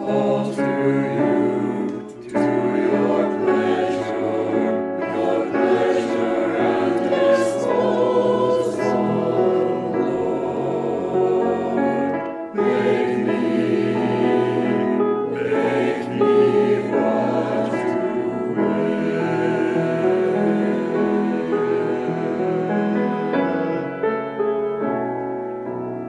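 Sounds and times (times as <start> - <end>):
mixed choir singing: 0.0 - 24.4
grand piano accompaniment: 0.0 - 26.0.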